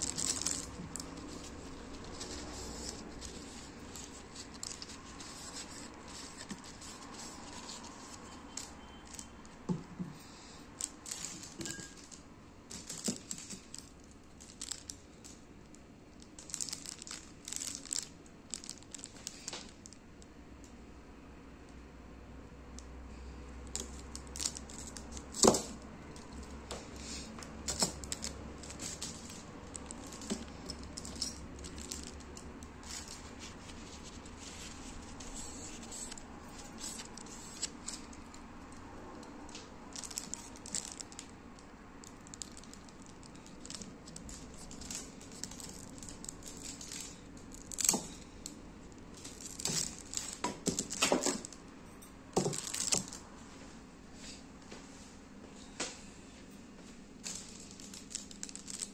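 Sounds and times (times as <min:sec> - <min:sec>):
aluminium foil crinkling: 0:00.0 - 0:20.1, 0:23.7 - 0:38.4, 0:39.2 - 0:51.6, 0:52.4 - 0:53.3, 0:57.2 - 0:58.9.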